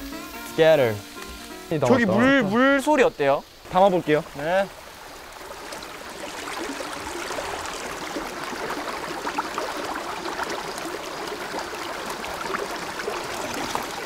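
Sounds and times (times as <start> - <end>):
stream babbling over stones: 0.6 - 14.0.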